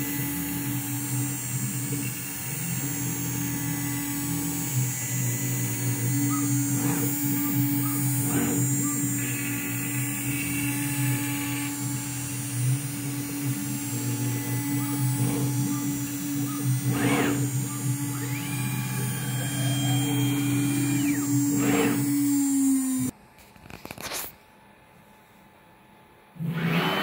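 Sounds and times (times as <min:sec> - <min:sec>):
router spindle hum and whine: 0:00.0 - 0:23.1, 0:26.4 - 0:27.0.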